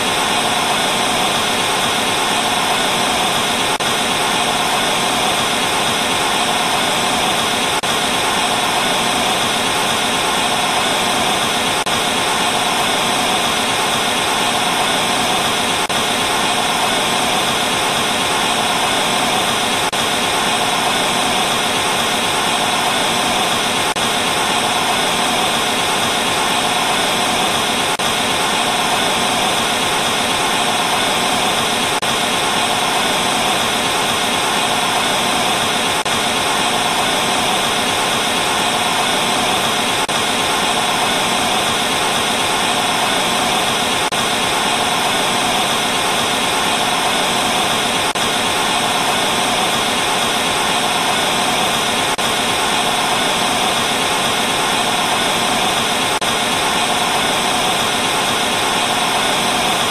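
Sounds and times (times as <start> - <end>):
tv static hiss: 0.0 - 59.9.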